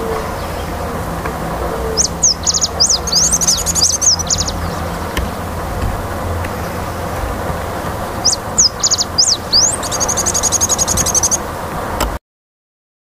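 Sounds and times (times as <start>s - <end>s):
finch singing: 0.0s - 11.5s
low background rumble: 0.0s - 12.2s.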